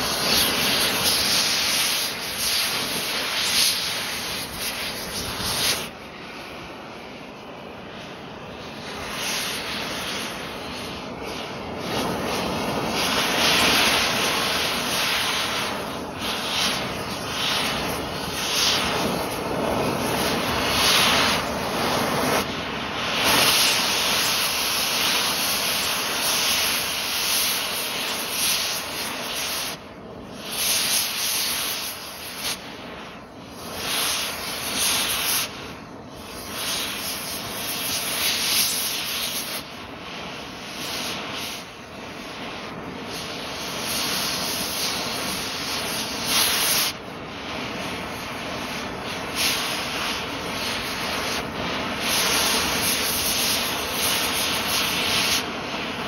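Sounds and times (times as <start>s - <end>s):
torch flame hissing: 0.0s - 56.0s.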